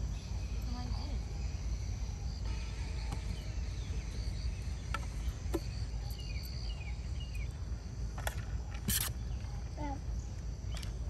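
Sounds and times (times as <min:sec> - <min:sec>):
insects chirping in high trills: 0:00.0 - 0:11.0.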